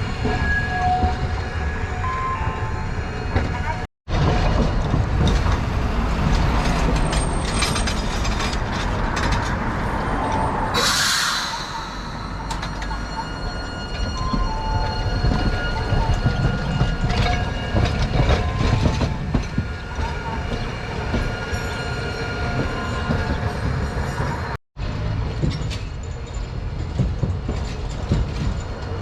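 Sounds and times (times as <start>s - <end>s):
tram wheels rumbling on track: 0.0s - 29.0s.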